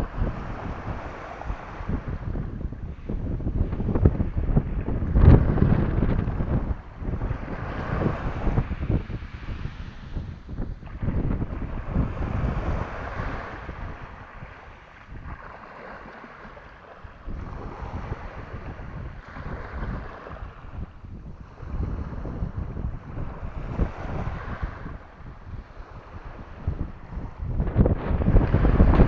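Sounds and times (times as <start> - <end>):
sea waves washing: 0.0 - 29.0
wind buffeting microphone: 0.0 - 29.0.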